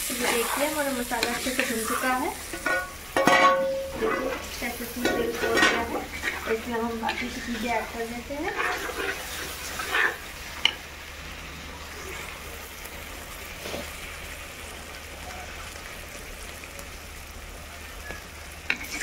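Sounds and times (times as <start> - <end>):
paste sizzling in oil: 0.0 - 19.0.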